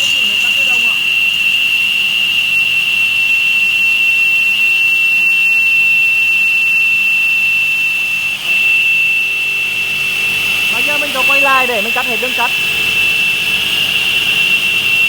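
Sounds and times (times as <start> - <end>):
stone saw high-pitched whine: 0.0 - 15.0.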